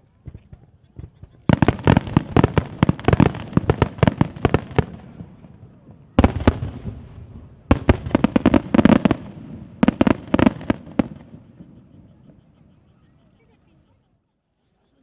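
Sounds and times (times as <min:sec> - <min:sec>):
fireworks bursting: 0:00.1 - 0:12.6.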